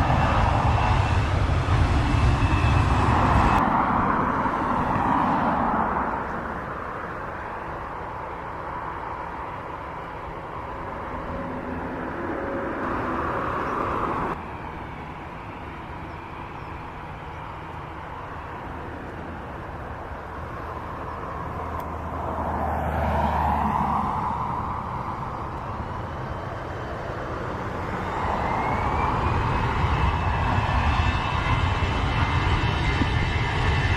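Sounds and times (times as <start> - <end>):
jet engine rush: 0.0 - 33.9.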